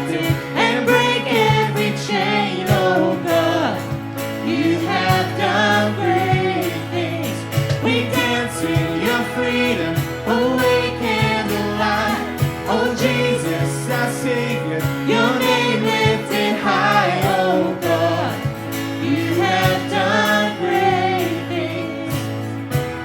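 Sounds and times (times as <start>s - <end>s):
bass notes: 0.0s - 23.0s
people singing: 0.0s - 23.0s.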